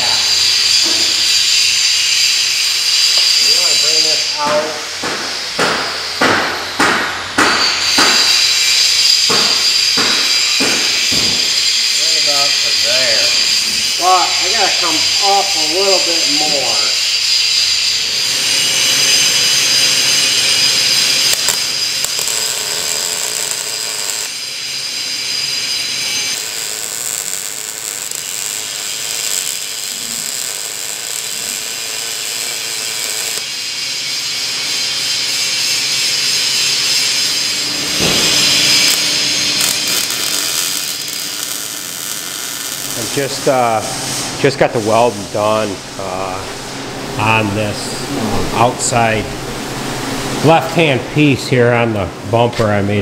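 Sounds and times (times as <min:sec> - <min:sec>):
arc welding crackling sizzle: 0:00.0 - 0:47.9.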